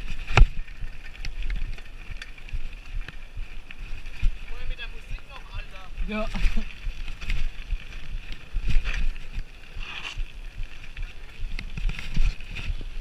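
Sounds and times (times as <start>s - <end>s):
bike clicks and rattles: 0.0s - 13.0s
bike tyres crunching on gravel: 0.0s - 13.0s.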